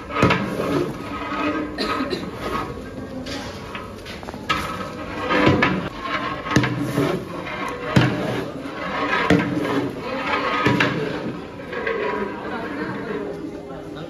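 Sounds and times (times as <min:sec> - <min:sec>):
ladle stirring thick food: 0:00.0 - 0:14.0.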